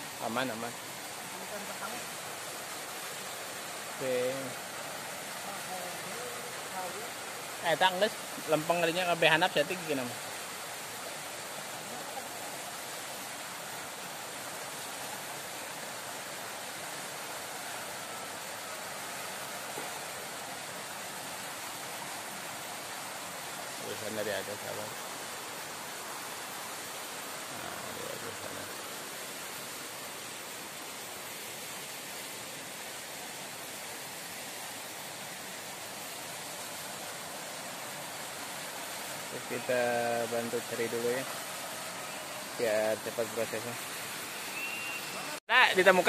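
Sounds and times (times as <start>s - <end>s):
forest stream rushing: 0.0s - 46.0s.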